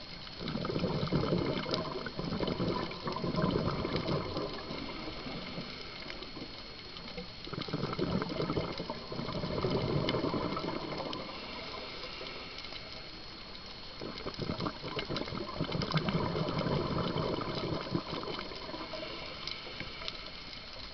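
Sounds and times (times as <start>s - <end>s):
exhaled bubbles rushing and gurgling: 0.0s - 20.9s.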